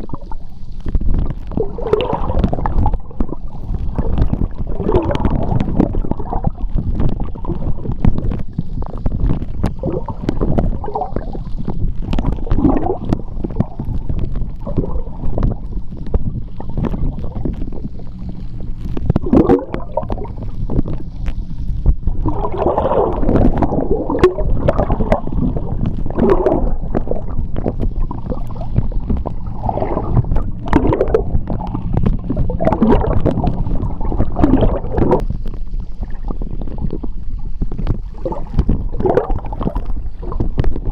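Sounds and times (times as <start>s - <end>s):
gurgling bubbles: 0.0s - 40.9s
underwater churning rumble: 0.0s - 40.9s.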